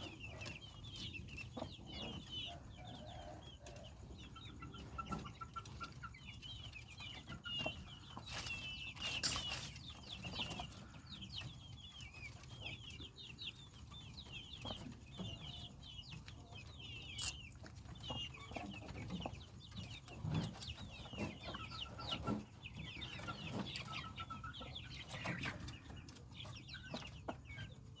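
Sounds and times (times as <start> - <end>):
chickens chirping and clucking: 0.0 - 28.0.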